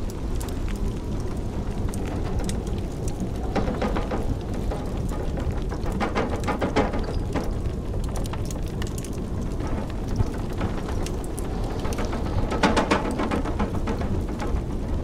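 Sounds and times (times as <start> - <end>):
low rumble of blizzard wind: 0.0 - 15.0
wood fire crackling and popping: 0.0 - 15.0.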